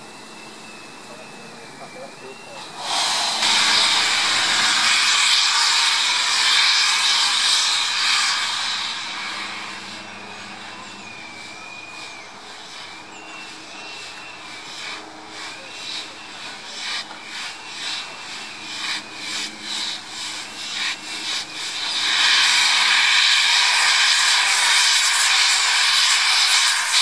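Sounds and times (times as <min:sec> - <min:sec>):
steam locomotive chimney exhaust beats: 0:00.0 - 0:27.0
steam locomotive drain cocks hissing: 0:00.0 - 0:27.0.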